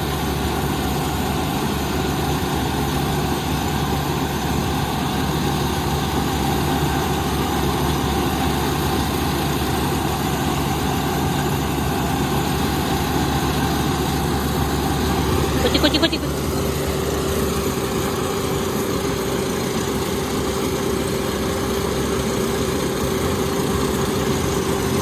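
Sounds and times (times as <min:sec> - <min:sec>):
combine harvester diesel engine: 0:00.0 - 0:25.0.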